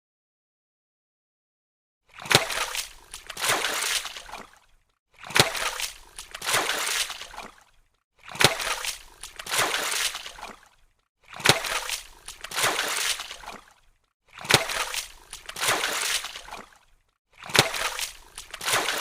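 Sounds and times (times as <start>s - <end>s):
water splashing and sloshing: 2.0s - 19.0s.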